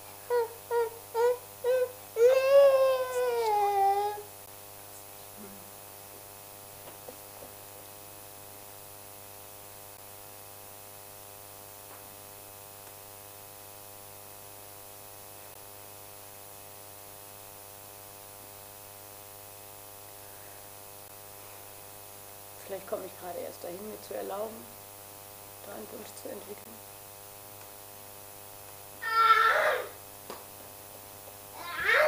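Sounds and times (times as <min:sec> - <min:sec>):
constant hiss: 0:00.0 - 0:32.0
electrical mains hum: 0:00.0 - 0:32.0.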